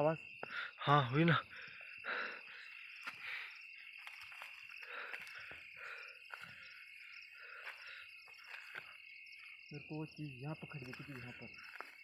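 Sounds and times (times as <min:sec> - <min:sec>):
frogs croaking: 0:00.0 - 0:12.0
insect pulsing trill: 0:00.0 - 0:12.0
insects droning: 0:00.0 - 0:12.0.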